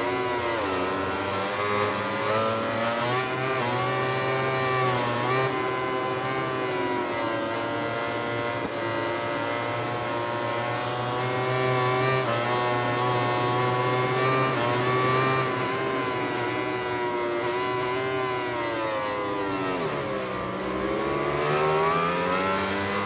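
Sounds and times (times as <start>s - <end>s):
motorcycle engine at racing speed: 0.0s - 23.0s.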